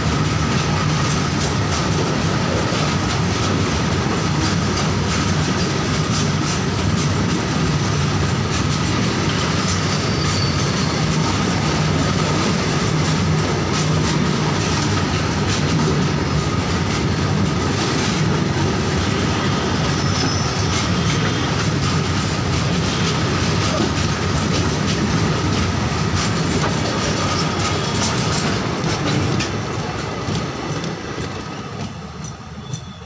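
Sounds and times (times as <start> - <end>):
train wheels clattering on rails: 0.0 - 33.0.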